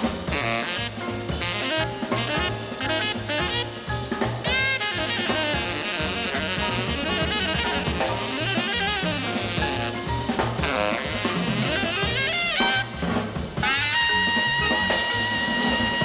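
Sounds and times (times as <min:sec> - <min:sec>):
drum kit with cymbals: 0:00.0 - 0:16.0
tenor saxophone jazz solo: 0:00.0 - 0:16.0
walking bass line: 0:00.0 - 0:16.0.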